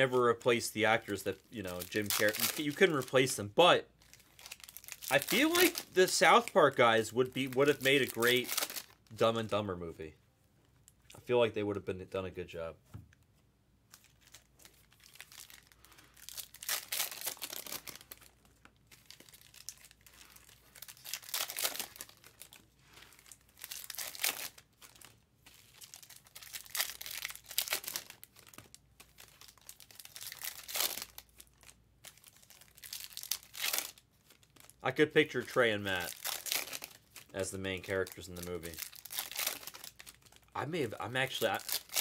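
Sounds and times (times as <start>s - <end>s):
foil wrappers tearing and crinkling: 1.1s - 3.4s, 4.0s - 9.0s, 14.0s - 42.0s.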